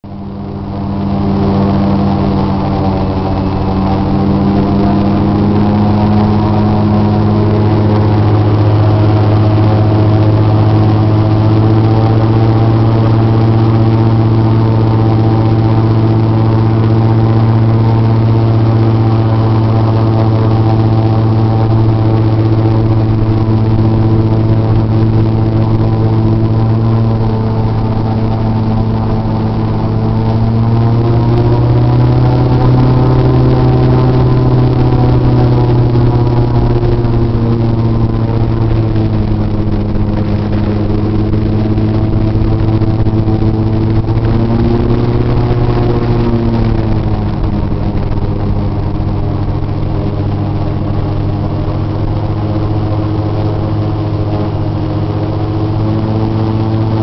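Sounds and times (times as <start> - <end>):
airboat engine and propeller drone: 0.0 - 57.0.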